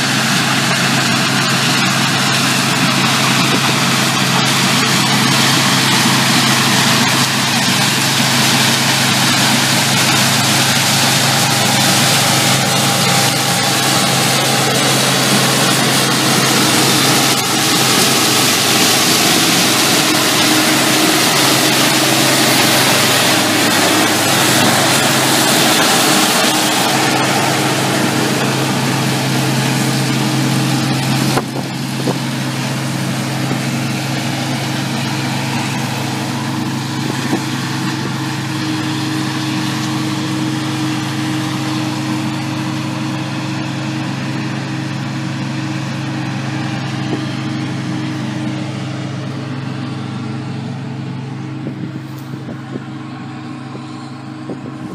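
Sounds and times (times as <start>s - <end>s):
combine harvester droning: 0.0s - 54.9s.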